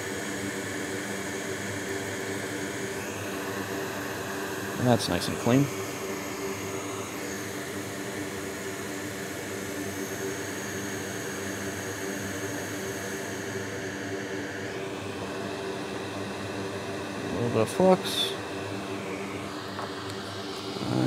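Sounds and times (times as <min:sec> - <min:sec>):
fan noise: 0:00.0 - 0:21.0.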